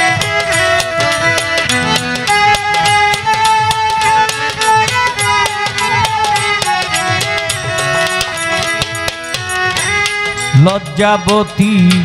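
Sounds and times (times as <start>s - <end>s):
hand drums beat: 0.0s - 12.0s
violin melody: 0.0s - 12.0s.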